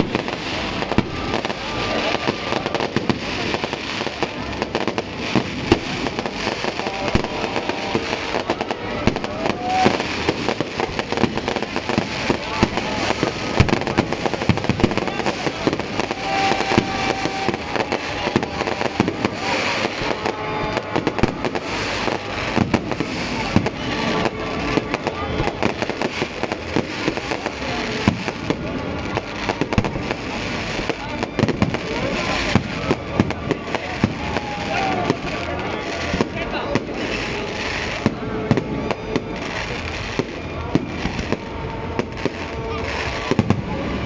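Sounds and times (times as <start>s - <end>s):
fireworks popping and banging: 0.0s - 44.0s
people's voices: 0.0s - 44.0s.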